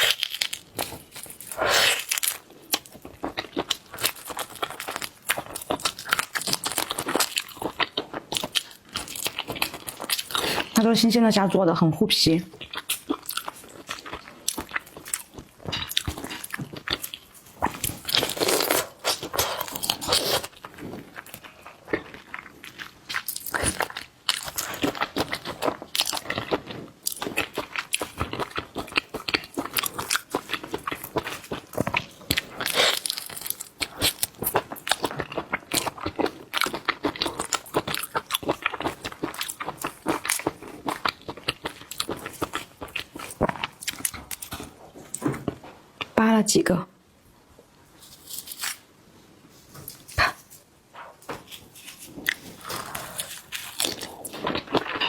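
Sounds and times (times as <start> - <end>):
chewing and crunching shrimp: 0.0 - 11.4, 12.5 - 46.2, 48.0 - 48.8, 49.6 - 50.7, 51.3 - 55.0.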